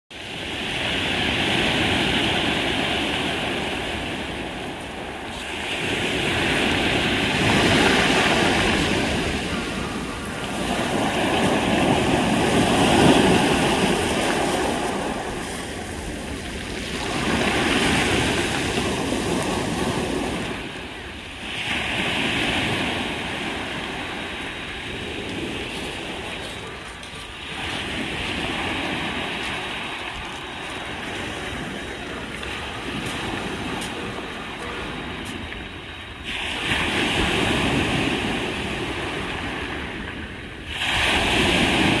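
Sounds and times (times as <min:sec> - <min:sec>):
waves breaking on pebble beach: 0:00.2 - 0:42.0.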